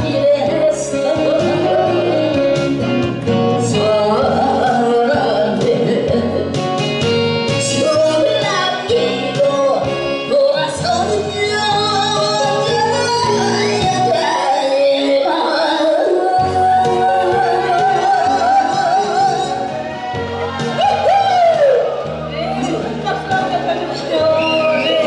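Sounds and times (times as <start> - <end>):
woman singing into a microphone: 0.0 - 6.9, 7.5 - 19.8, 23.1 - 25.0
instrumental accompaniment: 0.0 - 25.0.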